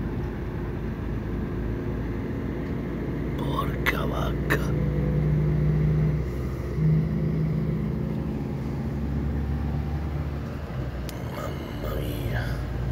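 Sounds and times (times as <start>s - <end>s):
vehicle cabin engine and road noise: 0.0s - 12.9s.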